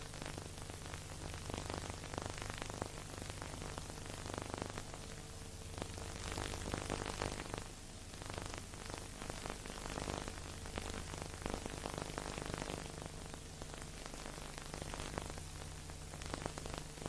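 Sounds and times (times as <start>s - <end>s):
low steady hum: 0.0s - 17.0s
record crackling: 0.0s - 17.0s
recording surface hiss: 0.0s - 17.0s.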